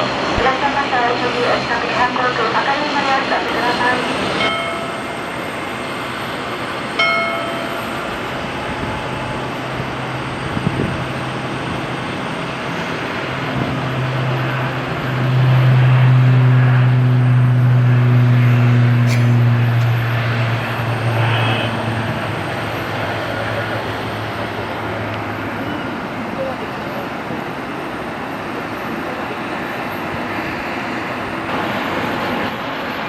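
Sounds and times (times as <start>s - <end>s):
airport noise: 0.0s - 33.0s
turboprop propellers droning: 0.0s - 33.0s.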